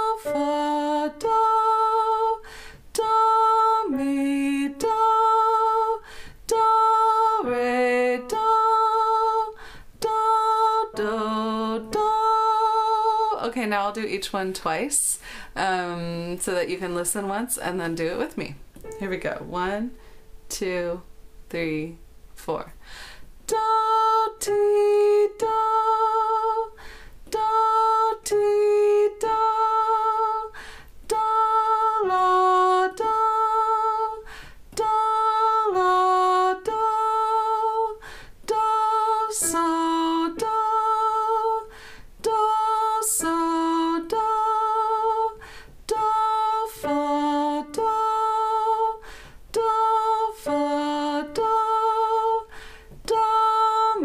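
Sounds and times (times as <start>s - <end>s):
woman singing intervals: 0.0s - 22.8s, 23.5s - 54.0s.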